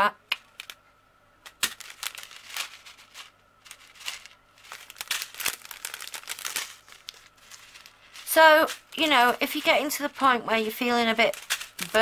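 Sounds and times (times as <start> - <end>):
plastic bags crinkling: 1.5 - 12.0.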